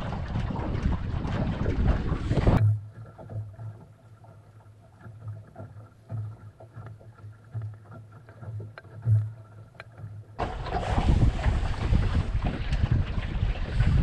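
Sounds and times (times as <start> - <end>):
water lapping against hull: 0.0 - 14.0.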